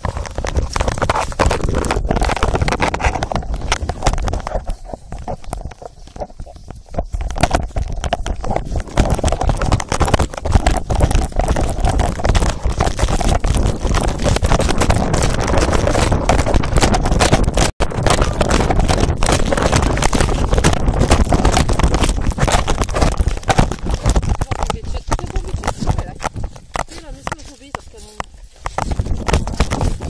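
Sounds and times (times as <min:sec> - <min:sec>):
microphone scraping and rubbing: 0:00.0 - 0:30.0
wind on microphone: 0:00.0 - 0:30.0.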